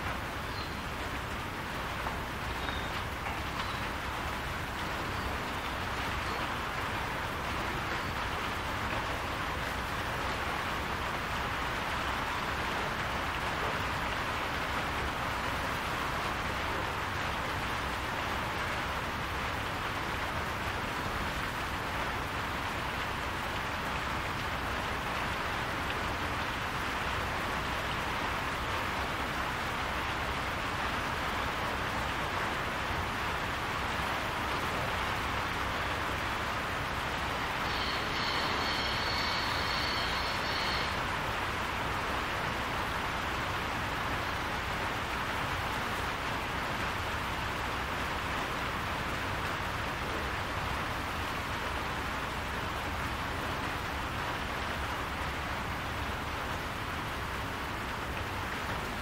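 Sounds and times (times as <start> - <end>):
rain on a barn roof: 0.0 - 59.0.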